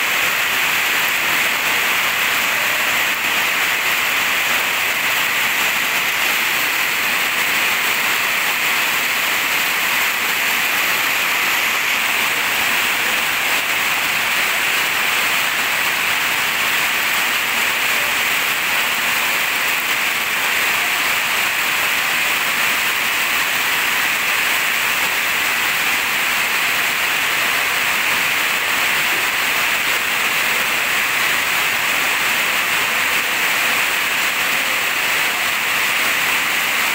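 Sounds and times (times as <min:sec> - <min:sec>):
heavy rain on concrete: 0:00.0 - 0:36.9.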